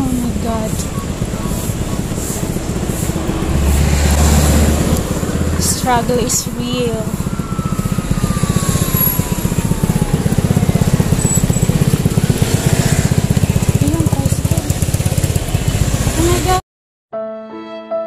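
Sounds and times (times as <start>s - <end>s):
small motorcycle engine running: 0.0s - 16.6s
street traffic: 0.0s - 16.6s.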